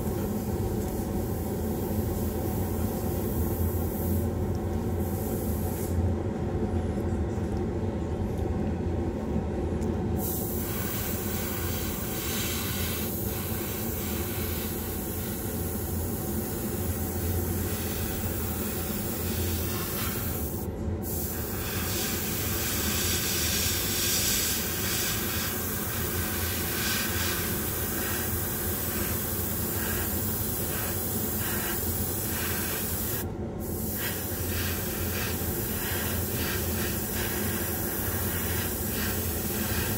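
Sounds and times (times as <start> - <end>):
airbrush spraying hiss: 0.0 - 4.4, 5.0 - 6.0, 10.2 - 39.9
low mechanical hum: 0.0 - 39.9.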